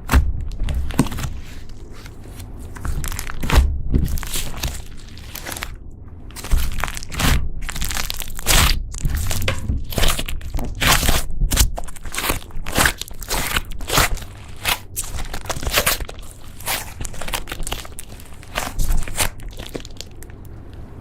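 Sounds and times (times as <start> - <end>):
slime squelches: 0.0 - 20.6.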